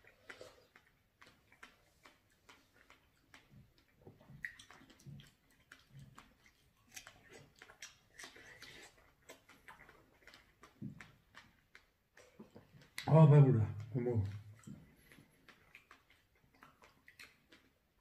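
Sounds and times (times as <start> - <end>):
wet chewing mouth clicks: 0.0 - 18.0.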